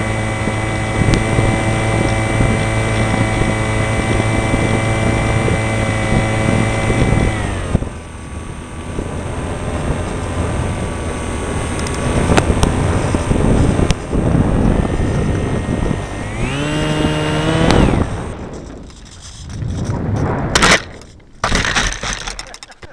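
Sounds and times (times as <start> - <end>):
wind rushing over microphone: 0.0 - 22.4
model airplane motor: 0.0 - 22.9.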